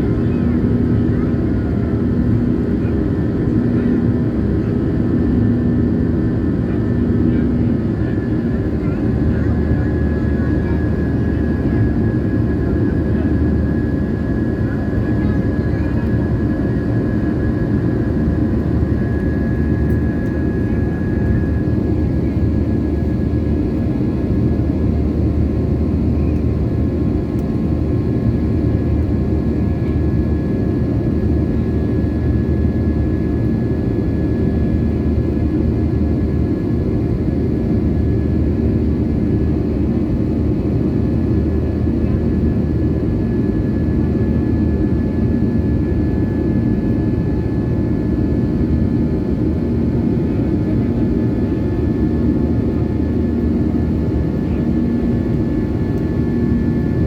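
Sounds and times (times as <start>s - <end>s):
jet engines and airflow roar: 0.0s - 57.0s.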